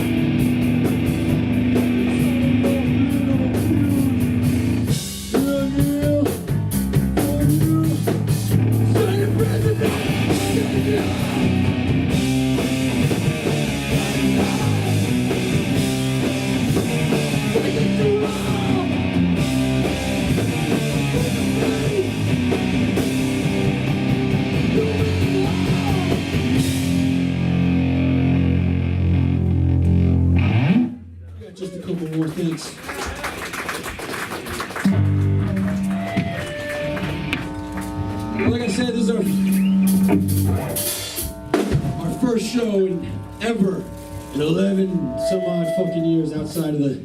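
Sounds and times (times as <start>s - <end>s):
punk band playing live: 0.0s - 31.0s, 34.0s - 45.8s.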